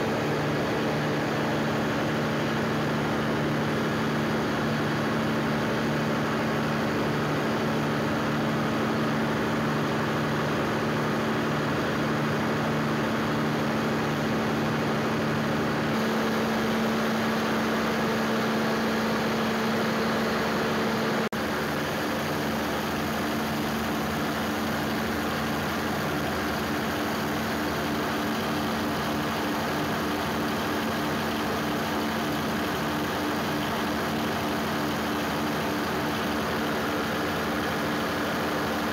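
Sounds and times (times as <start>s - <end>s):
generator engine running: 0.0s - 38.9s.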